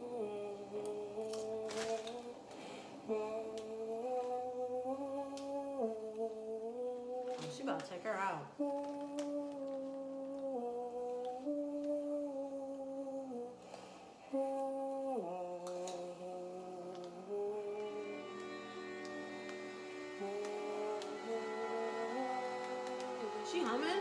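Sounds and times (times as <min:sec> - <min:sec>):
woman humming slow melody: 0:00.0 - 0:02.4, 0:03.0 - 0:07.4, 0:08.6 - 0:13.6, 0:14.2 - 0:24.0.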